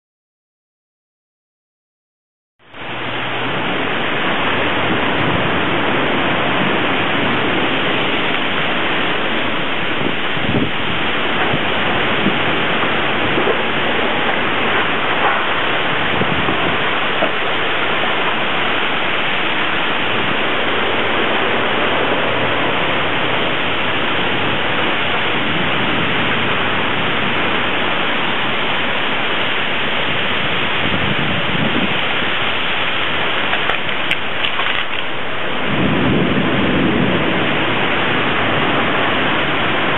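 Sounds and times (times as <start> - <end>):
heavy rain: 2.6 - 39.9
strong storm wind: 2.6 - 39.9.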